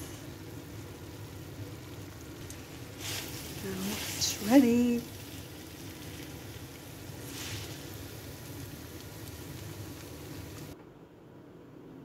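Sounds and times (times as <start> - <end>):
spaghetti sizzling in a frying pan: 0.0 - 10.8.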